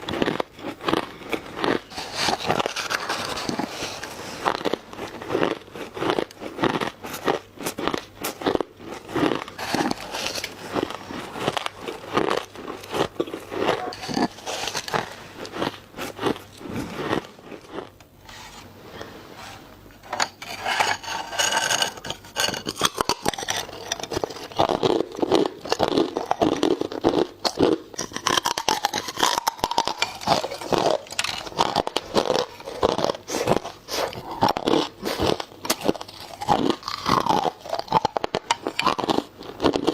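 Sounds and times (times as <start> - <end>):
ice crunched between teeth: 0.0 - 18.0, 20.9 - 39.9.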